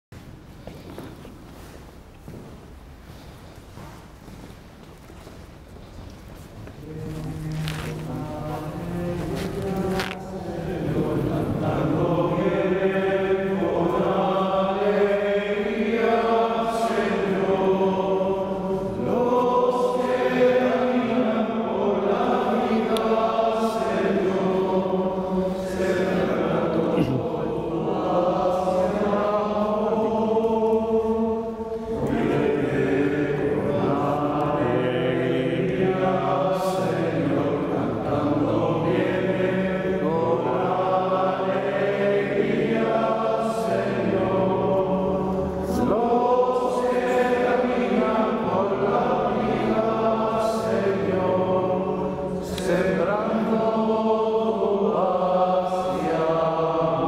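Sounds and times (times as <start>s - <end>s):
group singing a slow hymn: 6.4s - 57.0s.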